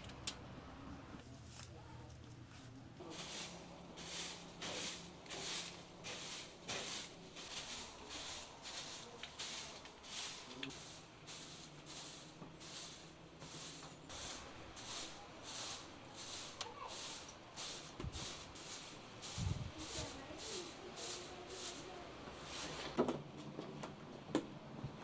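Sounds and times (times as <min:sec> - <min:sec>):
broom sweeping stone tiles: 0:02.4 - 0:23.0.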